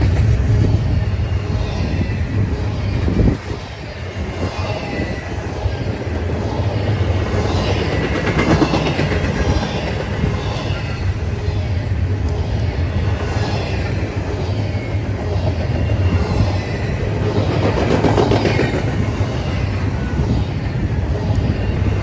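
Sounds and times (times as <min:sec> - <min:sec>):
faint high wheel squeal: 0:00.9 - 0:17.2, 0:18.6 - 0:22.0.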